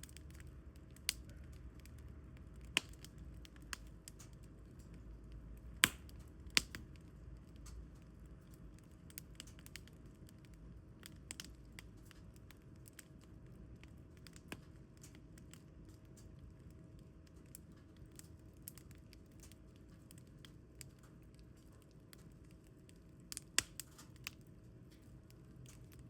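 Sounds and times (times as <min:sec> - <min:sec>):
firewood crackling and popping: 0:00.0 - 0:26.0
low steady hum: 0:00.0 - 0:26.0.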